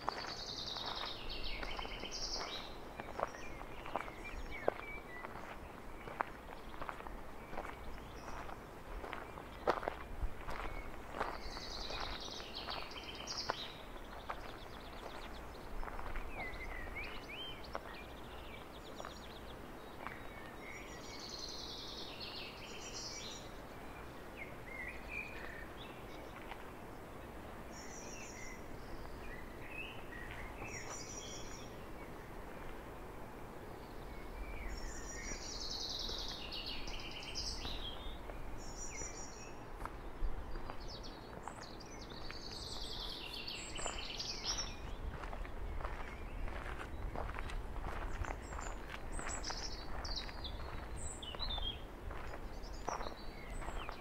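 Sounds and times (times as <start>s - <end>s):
outdoor background noise: 0.0s - 54.0s
songbirds chirping and trilling: 0.0s - 54.0s.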